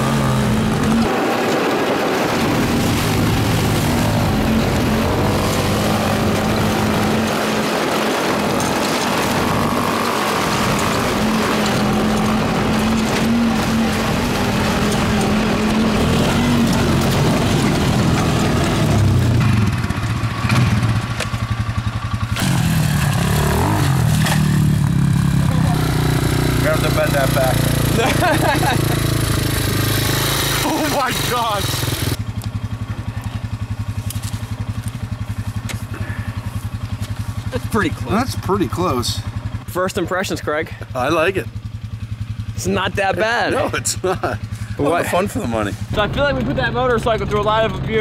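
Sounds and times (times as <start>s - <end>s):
different engine: 0.0s - 48.0s
motorcycle engine running hard: 0.0s - 48.0s.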